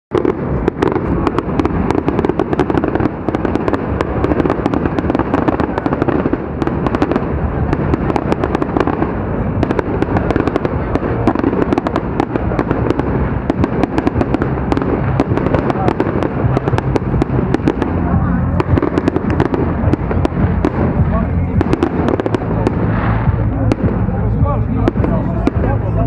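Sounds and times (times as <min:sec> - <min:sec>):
fireworks bangs and crackles: 0:00.1 - 0:26.0
low rumble: 0:00.1 - 0:26.0.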